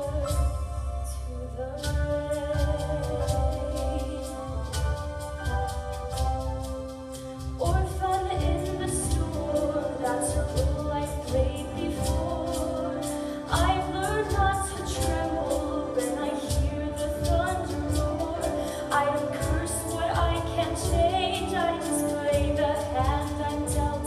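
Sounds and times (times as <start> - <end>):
instrumental accompaniment: 0.0 - 24.0
woman singing a ballad: 0.0 - 24.0.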